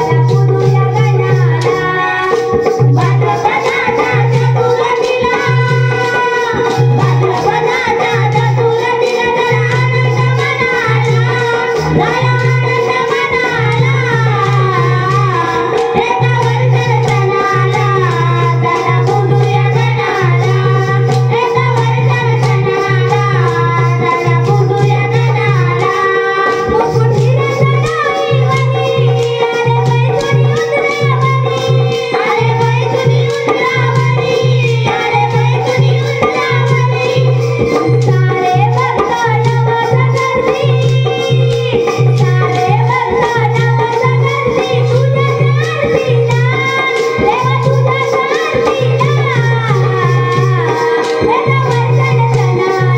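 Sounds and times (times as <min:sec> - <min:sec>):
tabla hand drumming: 0:00.0 - 0:52.9.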